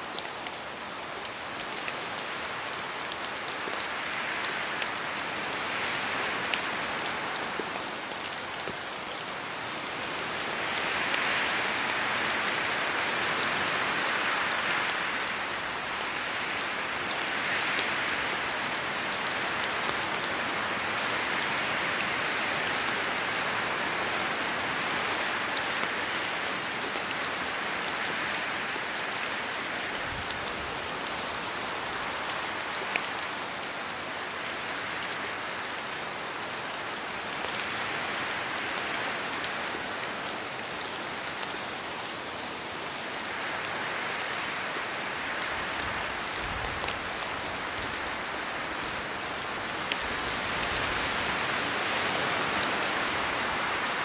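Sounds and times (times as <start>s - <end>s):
steady rain in a forest: 0.0s - 54.0s.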